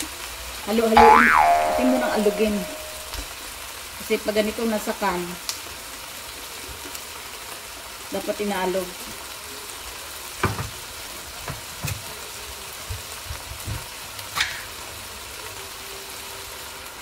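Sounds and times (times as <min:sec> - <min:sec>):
chicken and onions sizzling: 0:00.0 - 0:17.0.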